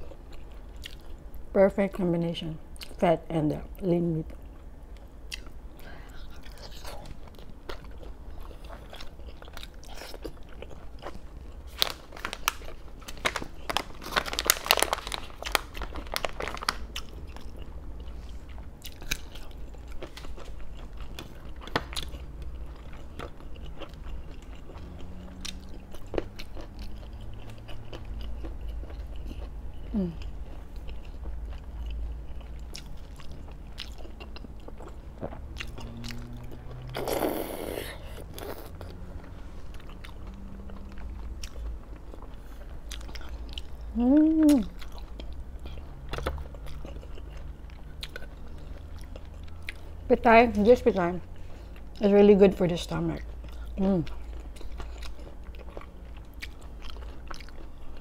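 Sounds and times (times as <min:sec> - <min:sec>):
chewing and biting: 0:00.0 - 0:01.2, 0:04.4 - 0:50.0, 0:53.2 - 0:58.0
low steady hum: 0:00.0 - 0:58.0.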